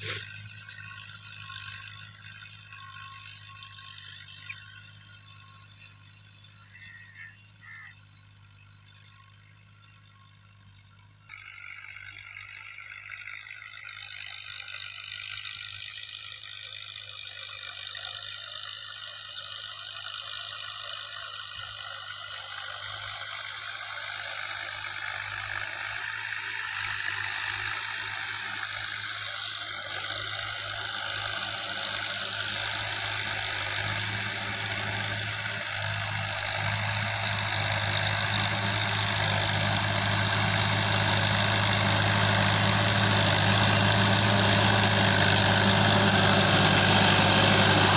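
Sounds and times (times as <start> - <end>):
tractor engine under load: 0.0 - 47.9.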